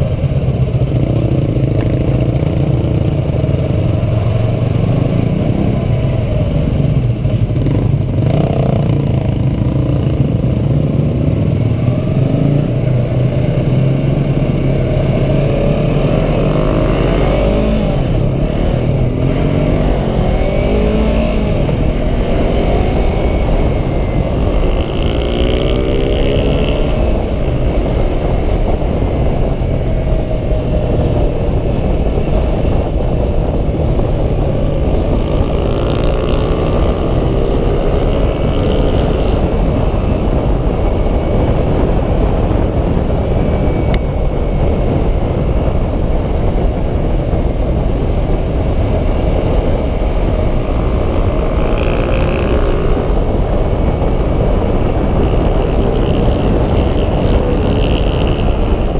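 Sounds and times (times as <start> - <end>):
motorcycle engine accelerating: 0.0 - 58.9
wind rushing over microphone: 0.0 - 58.9.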